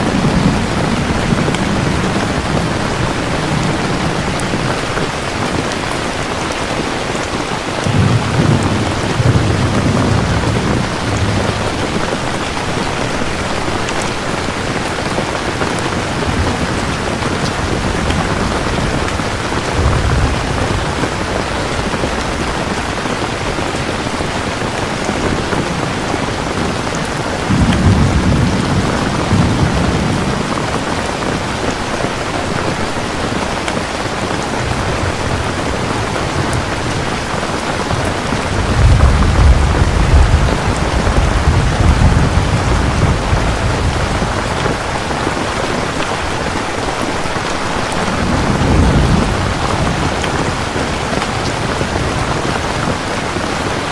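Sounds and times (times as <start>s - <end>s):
heavy rain falling: 0.0s - 53.9s
thunder rumbling: 0.0s - 53.9s.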